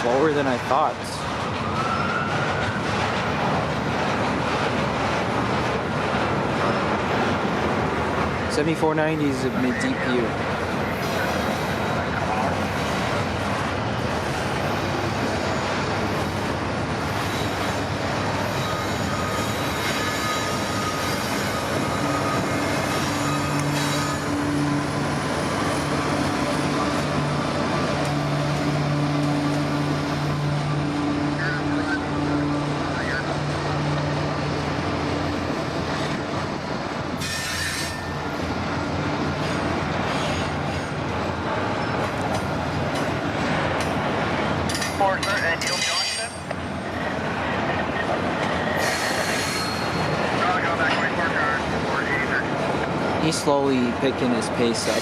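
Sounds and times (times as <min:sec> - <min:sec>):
freight train rolling on rails: 0:00.0 - 0:55.0.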